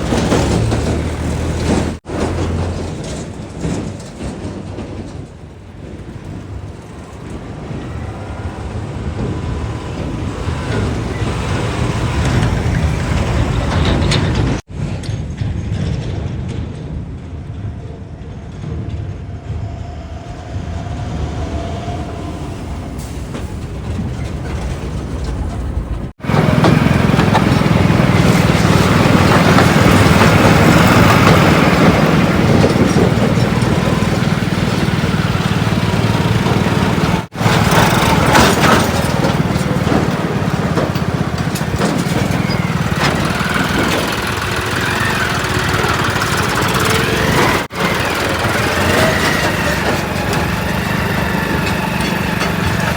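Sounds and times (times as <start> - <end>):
heavy diesel engines running: 0.0 - 52.9.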